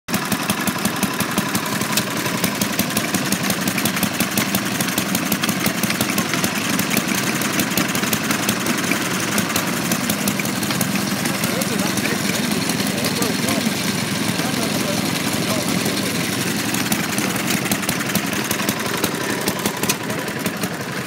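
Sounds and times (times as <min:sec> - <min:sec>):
small stationary engines running: 0:00.1 - 0:21.0.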